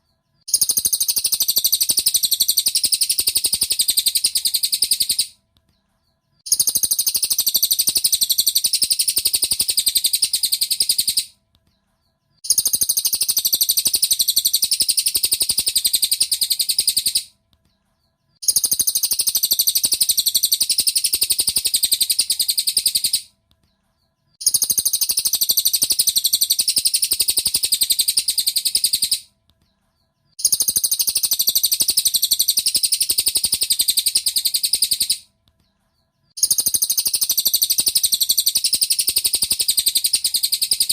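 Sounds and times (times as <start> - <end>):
rapid high-pitched bird song: 0.0 - 40.9.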